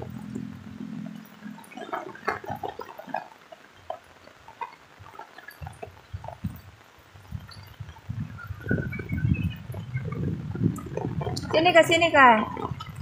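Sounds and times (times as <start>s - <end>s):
drips and splashes: 0.0s - 13.0s
rain on paved lane: 0.0s - 13.0s.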